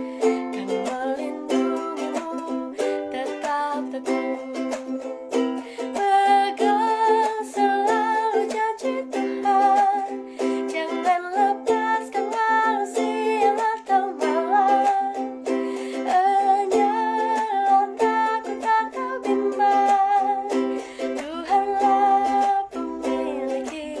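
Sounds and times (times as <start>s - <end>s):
strummed string accompaniment: 0.0s - 24.0s.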